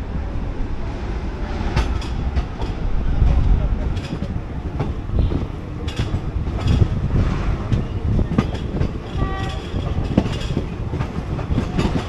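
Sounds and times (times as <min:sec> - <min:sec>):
passenger train rumbling: 0:00.0 - 0:12.0
wheels clicking over rails: 0:01.7 - 0:12.0.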